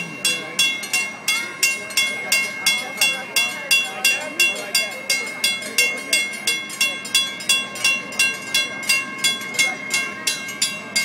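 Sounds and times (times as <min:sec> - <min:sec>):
warning bells clanging: 0:00.0 - 0:11.0.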